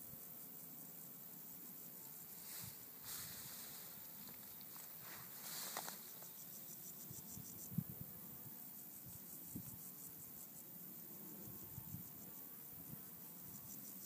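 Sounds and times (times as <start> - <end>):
insects ticking: 0.0 - 14.0.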